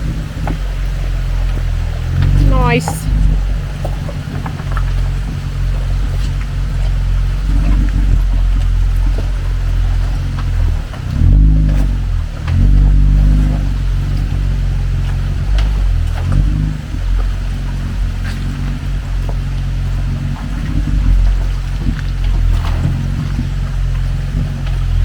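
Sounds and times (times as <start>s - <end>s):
off-road engine revving: 0.0s - 25.0s.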